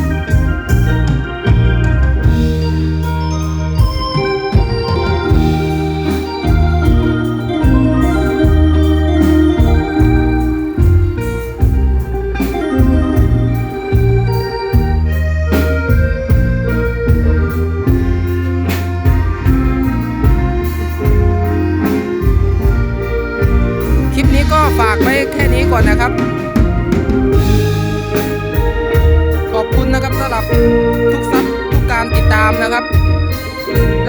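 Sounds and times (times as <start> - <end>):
electronic keyboard organ melody: 0.0 - 34.0
steady bass line: 0.0 - 34.0.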